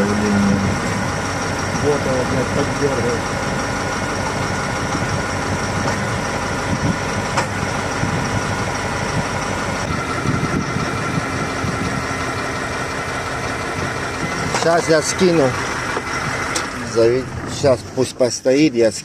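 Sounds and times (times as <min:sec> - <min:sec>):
diesel engine idling unevenly: 0:00.0 - 0:19.0.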